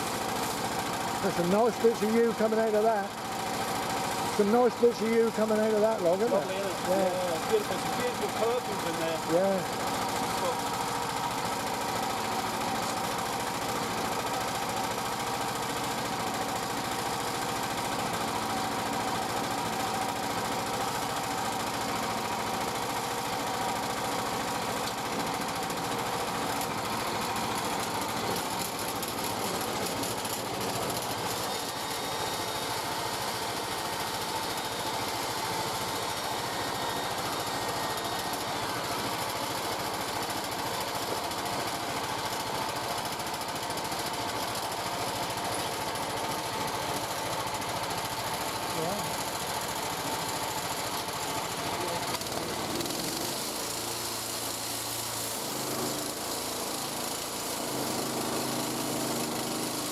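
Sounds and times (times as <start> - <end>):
bandsaw mill sawing log: 0.0 - 59.9.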